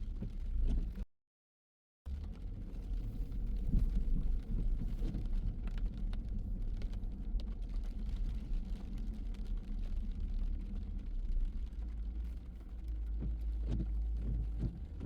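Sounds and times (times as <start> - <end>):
car engine and road noise: 2.1 - 15.0.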